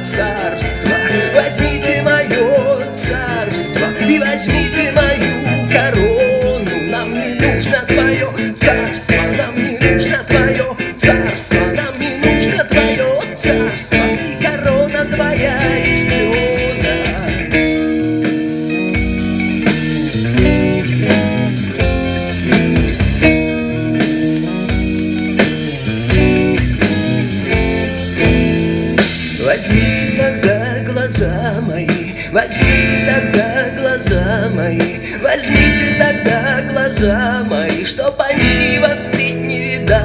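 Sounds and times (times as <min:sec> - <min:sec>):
instrumental rock music from vinyl: 0:00.0 - 0:40.0.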